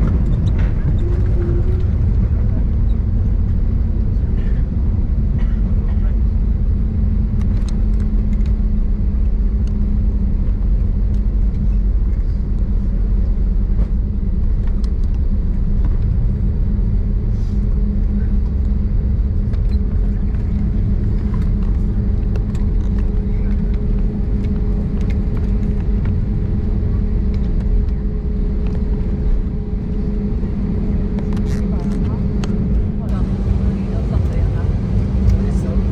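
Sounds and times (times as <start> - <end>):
airliner cabin rumble: 0.0 - 35.9.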